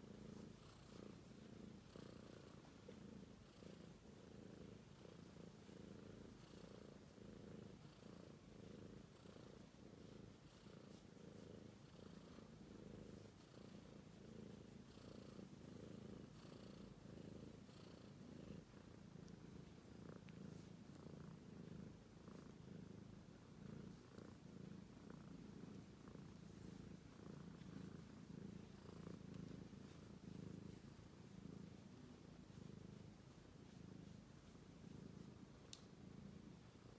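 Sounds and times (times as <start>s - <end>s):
kitten purring: 0.0s - 36.9s.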